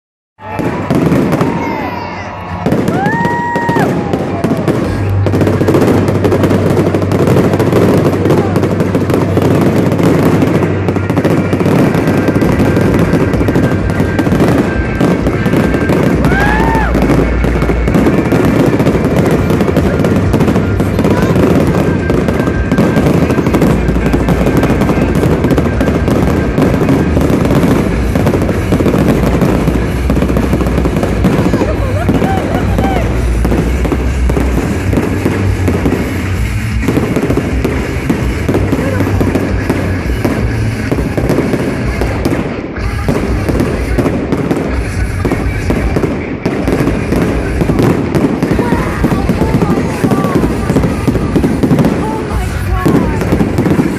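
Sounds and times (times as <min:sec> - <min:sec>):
fireworks crackling pops and bangs: 0:00.4 - 0:53.9
high firework whistle: 0:00.4 - 0:53.9.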